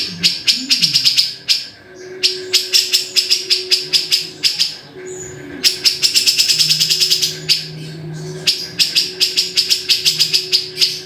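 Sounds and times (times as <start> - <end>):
bulbul chattering: 0.0 - 11.0.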